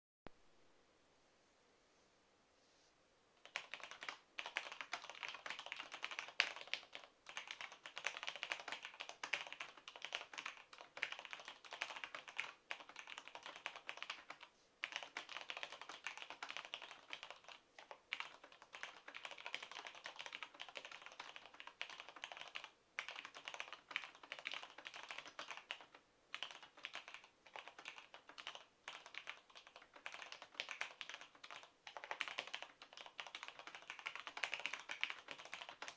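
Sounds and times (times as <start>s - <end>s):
fast typing on keyboard: 3.4s - 35.9s.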